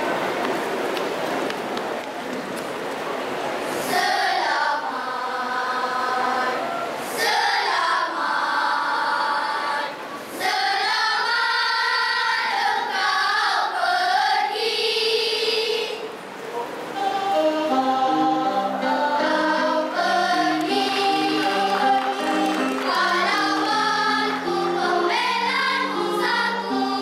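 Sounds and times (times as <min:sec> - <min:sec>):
children's choir singing: 0:03.6 - 0:27.0.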